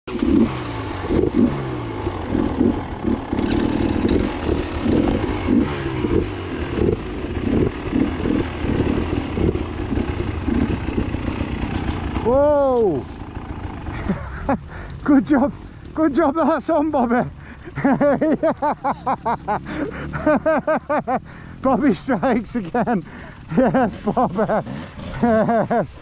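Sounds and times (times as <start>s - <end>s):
dirt bike engine revving: 0.1s - 26.0s.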